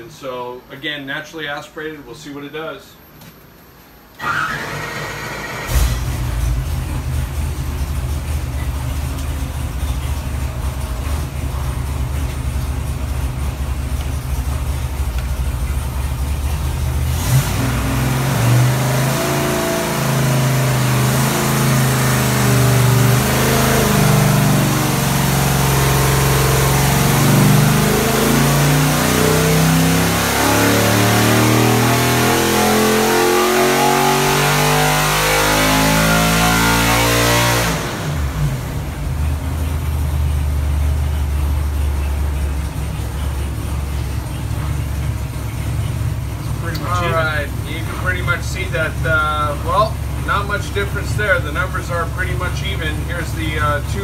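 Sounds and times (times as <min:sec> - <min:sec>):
engine revving on a dyno: 0:04.2 - 0:54.0.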